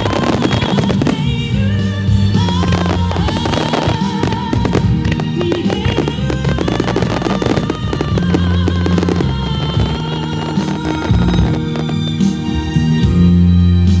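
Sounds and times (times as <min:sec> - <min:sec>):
fireworks bursting and crackling: 0:00.0 - 0:13.0
music with long held notes: 0:00.0 - 0:14.0.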